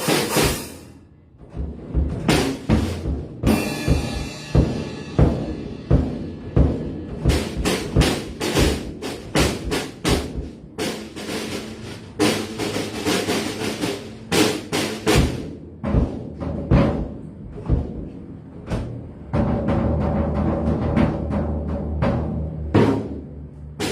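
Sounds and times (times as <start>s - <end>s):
drum kit hit hard: 0.0s - 18.1s, 19.3s - 23.9s.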